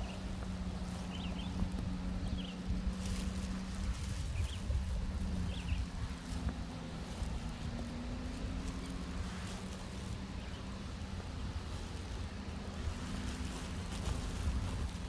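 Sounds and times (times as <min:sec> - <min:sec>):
low engine hum: 0:00.0 - 0:15.0
wind rumbling on microphone: 0:00.0 - 0:15.0.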